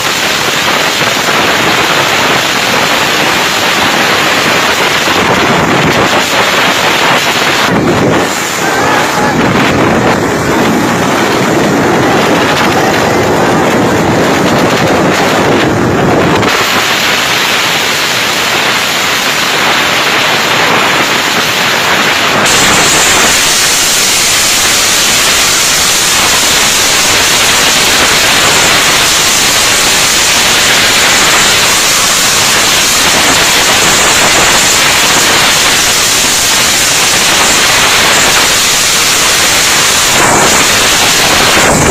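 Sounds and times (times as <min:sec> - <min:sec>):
vehicle and road noise: 0:00.0 - 0:41.9
wind rushing over microphone: 0:00.0 - 0:41.9.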